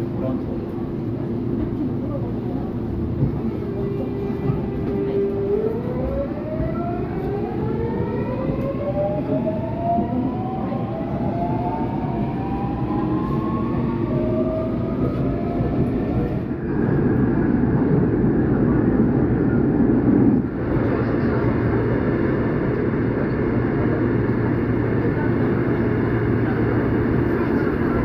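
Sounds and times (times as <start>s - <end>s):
subway traction motor whine: 0.0s - 28.0s
train running gear rumble: 0.0s - 28.0s
train wheels rumbling in tunnel: 0.0s - 28.0s.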